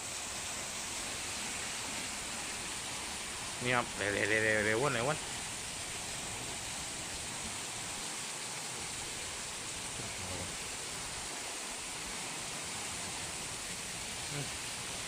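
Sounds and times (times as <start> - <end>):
wind and heavy rain: 0.0 - 15.0.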